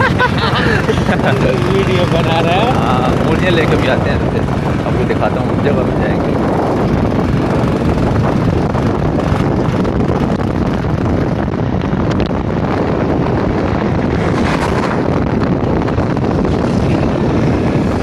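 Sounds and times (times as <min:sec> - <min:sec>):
motorcycle running: 0:00.0 - 0:18.0
wind buffeting microphone: 0:00.0 - 0:18.0.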